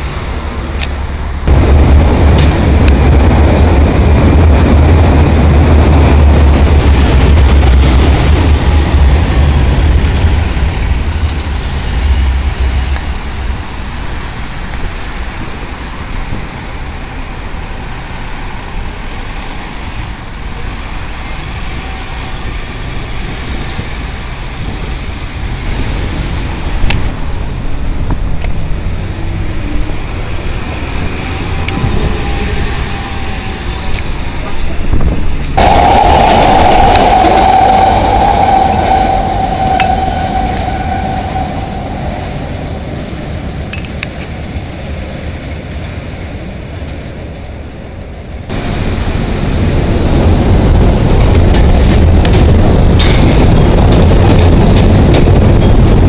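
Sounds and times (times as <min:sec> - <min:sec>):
bus engine rumbling: 0:00.0 - 0:56.0
street traffic noise: 0:00.0 - 0:56.0.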